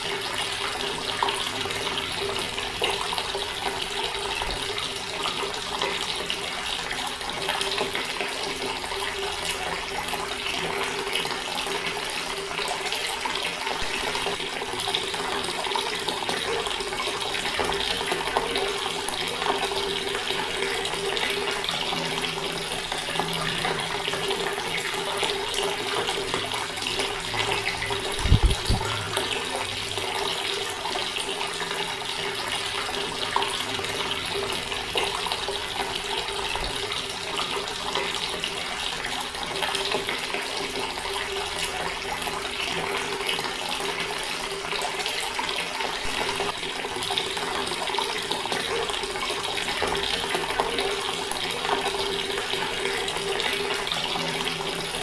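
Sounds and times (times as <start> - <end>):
tap water running: 0.0 - 55.0.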